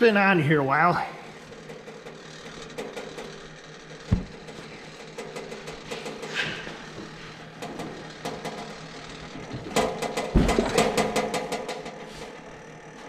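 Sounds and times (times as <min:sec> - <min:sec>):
small motor running: 0:00.8 - 0:13.0
dense run of clicks: 0:01.1 - 0:13.0.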